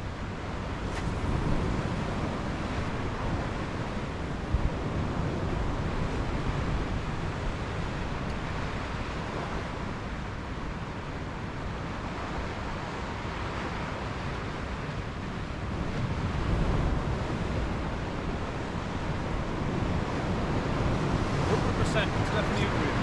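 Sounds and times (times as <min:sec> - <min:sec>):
sea surf washing ashore: 0:00.0 - 0:23.0
wind buffeting microphone: 0:00.0 - 0:23.0.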